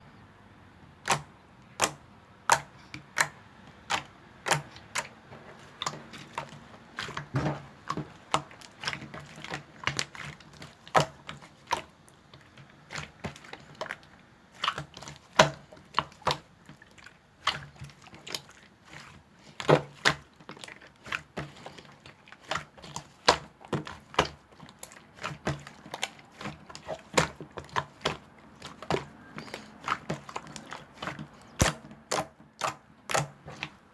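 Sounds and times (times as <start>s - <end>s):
slime kneaded by hand popping: 1.0s - 33.9s.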